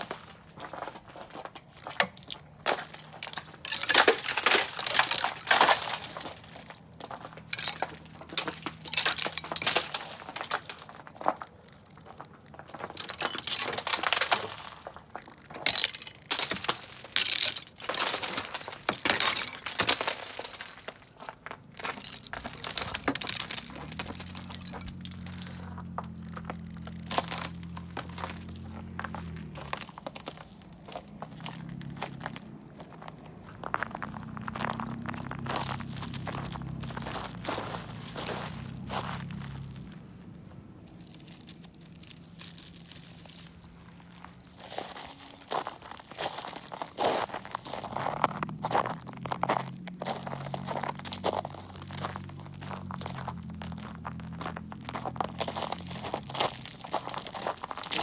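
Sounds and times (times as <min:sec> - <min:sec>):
ice crunching and clinking: 0:00.0 - 0:40.2, 0:40.8 - 0:58.0.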